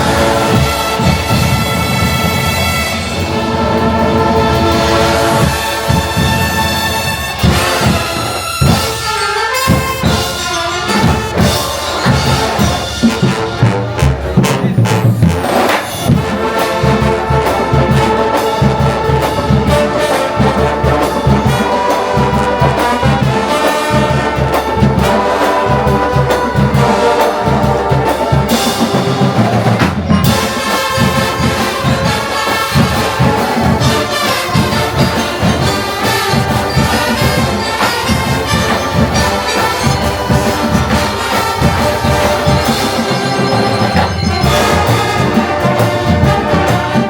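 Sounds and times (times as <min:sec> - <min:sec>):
brass horns playing melody: 0:00.0 - 0:47.0
marching drum beat: 0:00.0 - 0:47.0.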